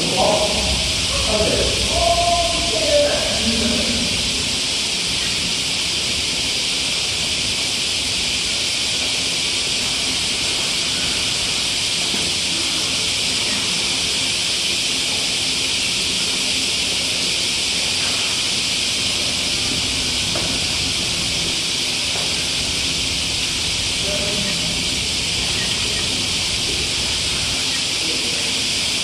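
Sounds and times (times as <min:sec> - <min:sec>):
steady high-pitched hiss: 0:00.0 - 0:29.0.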